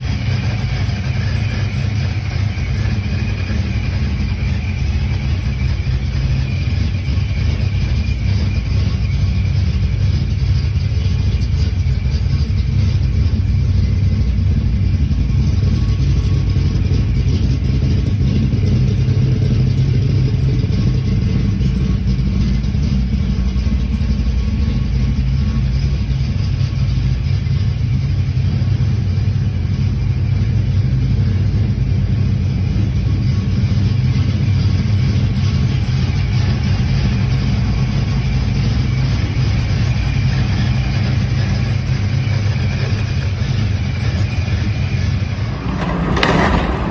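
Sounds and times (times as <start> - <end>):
engine running with deep rumble: 0.0 - 46.9.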